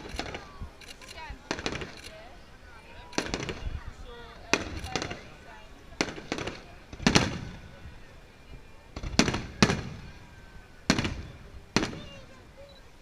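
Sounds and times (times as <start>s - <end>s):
fireworks bangs: 0.0s - 2.3s, 3.0s - 8.0s, 8.6s - 12.4s.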